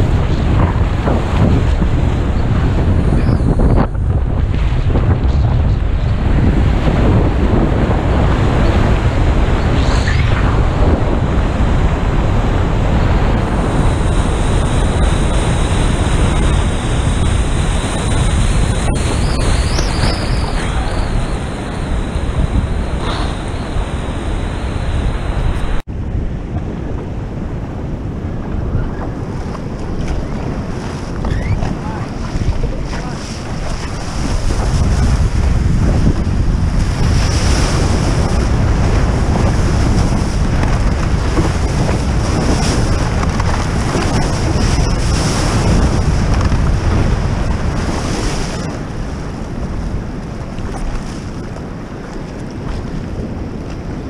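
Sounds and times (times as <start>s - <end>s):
water rushing and splashing: 0.0s - 25.9s, 27.4s - 54.0s
wind buffeting microphone: 0.0s - 54.0s.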